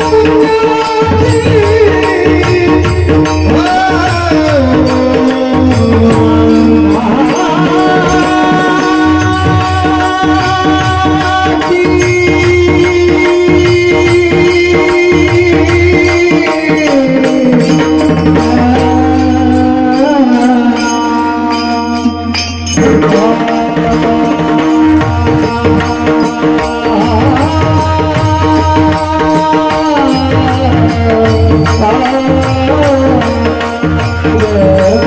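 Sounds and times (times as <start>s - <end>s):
even percussion beat: 0.0s - 35.0s
person singing long gliding notes: 0.0s - 35.0s
steady accompaniment: 0.0s - 35.0s.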